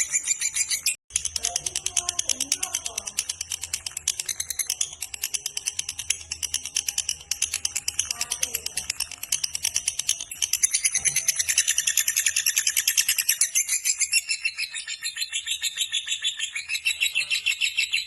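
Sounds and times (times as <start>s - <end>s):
lovebird chattering trill: 0.0s - 18.0s.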